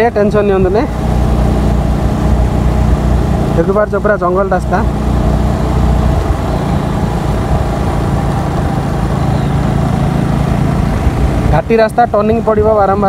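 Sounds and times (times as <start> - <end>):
rushing wind noise: 0.0 - 13.0
scooter engine running: 0.0 - 13.0.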